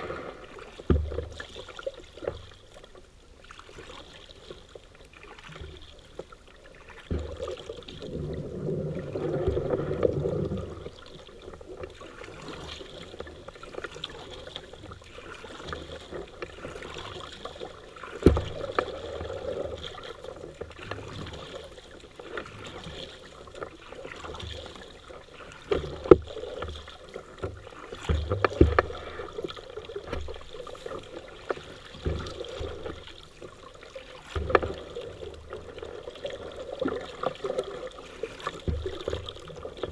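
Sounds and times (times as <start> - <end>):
water swishing with paddle strokes: 0.0 - 39.9.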